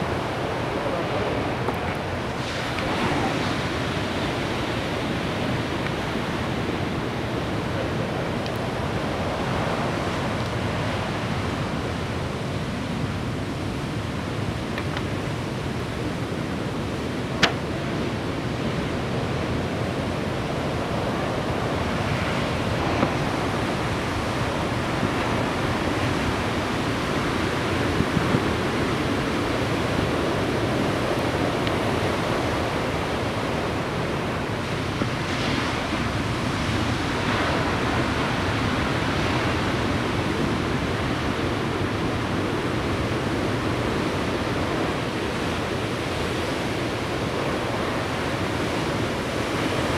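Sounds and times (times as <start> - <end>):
ocean surf breaking: 0.0 - 49.9.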